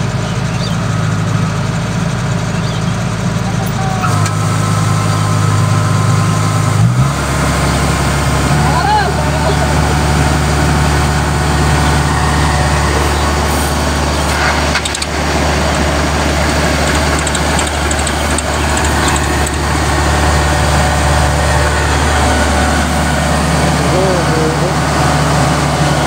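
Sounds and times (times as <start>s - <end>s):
combine harvester running: 0.0s - 26.0s
tractor diesel engine: 0.0s - 26.0s.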